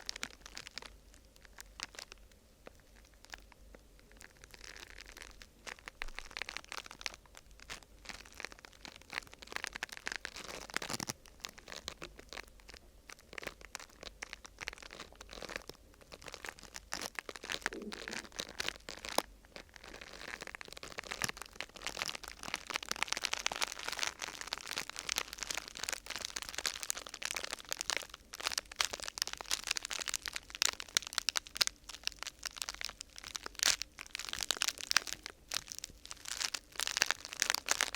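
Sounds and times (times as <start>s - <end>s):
crinkling of thin vinyl sheet: 0.0s - 37.9s.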